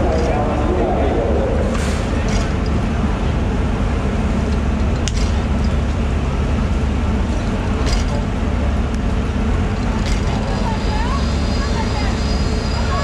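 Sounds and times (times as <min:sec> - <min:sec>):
boat machinery rumbling: 0:00.0 - 0:13.0.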